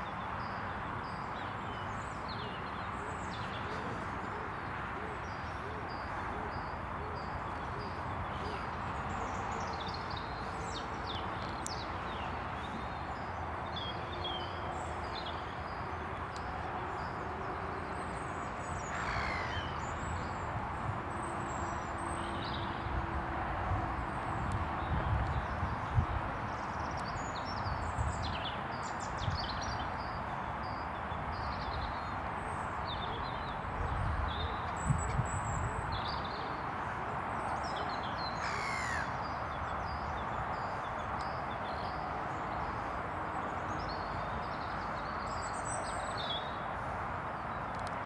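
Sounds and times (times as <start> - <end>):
wild birds chirping: 0.0 - 23.1, 24.0 - 48.0.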